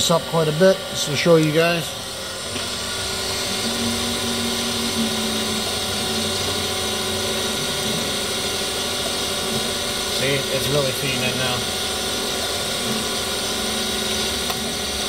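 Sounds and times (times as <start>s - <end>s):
surface grinder running: 0.0s - 15.0s.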